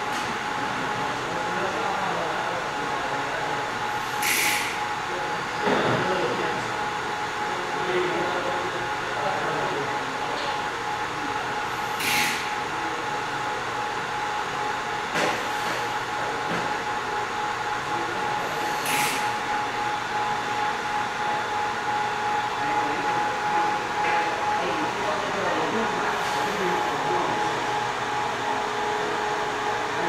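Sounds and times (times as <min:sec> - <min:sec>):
hot-air blower running: 0:00.0 - 0:30.0.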